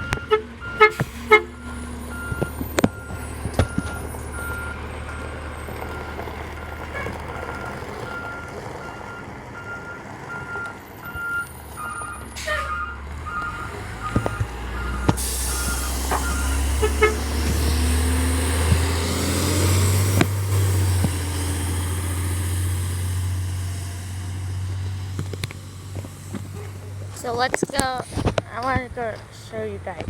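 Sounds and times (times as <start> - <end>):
truck reversing alarm beeping: 0.0 - 25.0
diesel engine running: 0.0 - 30.0.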